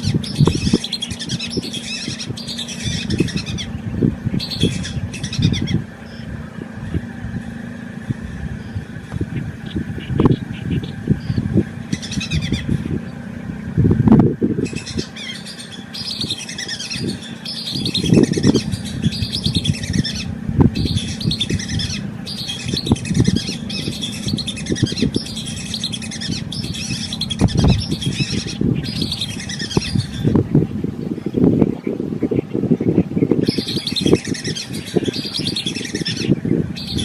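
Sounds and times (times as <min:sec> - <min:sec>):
low rumbles and thuds: 0:00.0 - 0:15.1, 0:17.0 - 0:34.2
swamp birds chirping: 0:00.0 - 0:37.0.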